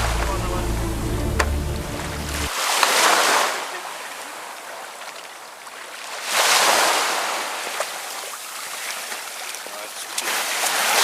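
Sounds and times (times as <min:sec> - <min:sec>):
sea water splashing against kayak: 0:00.0 - 0:11.0.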